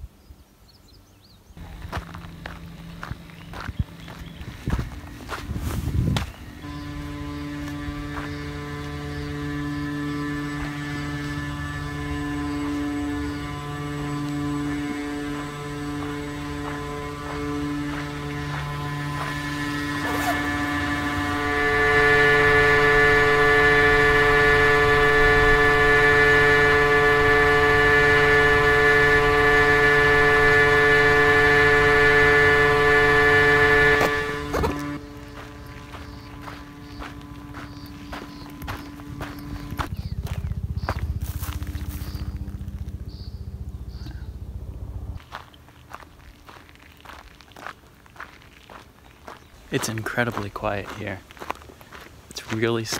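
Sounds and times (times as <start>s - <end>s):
machinery hum: 1.6s - 52.9s.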